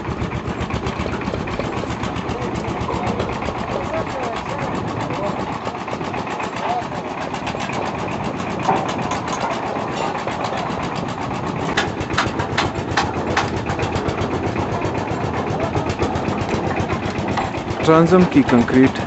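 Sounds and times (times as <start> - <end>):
machine engine running: 0.0 - 19.0.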